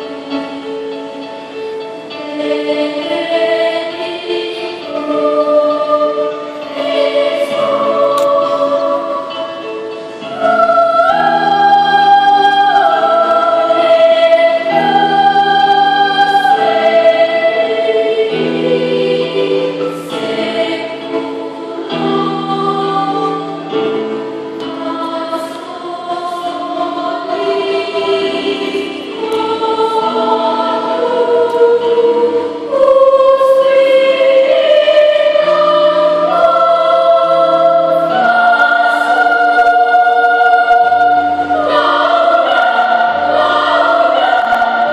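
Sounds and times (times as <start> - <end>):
children's choir singing a hymn: 0.0 - 44.9.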